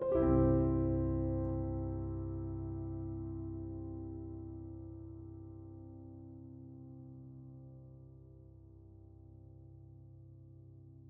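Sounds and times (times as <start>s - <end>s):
soft sustained chord music: 0.0s - 11.0s.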